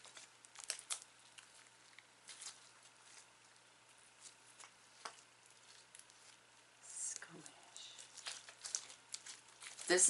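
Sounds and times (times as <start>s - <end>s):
faint wet pops and crackles: 0.0s - 10.0s.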